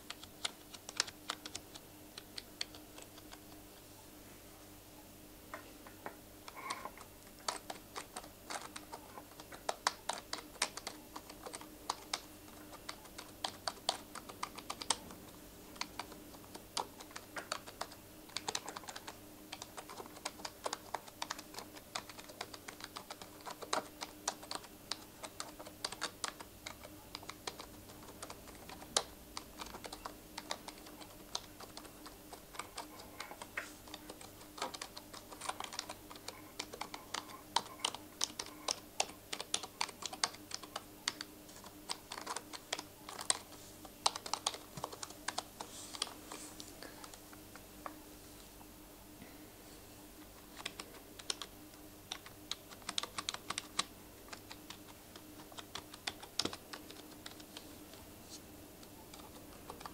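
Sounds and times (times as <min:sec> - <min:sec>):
keyboard keys clicking: 0:00.0 - 0:03.6, 0:05.9 - 0:46.2, 0:50.5 - 0:51.5, 0:52.1 - 0:57.6, 0:59.1 - 0:59.9.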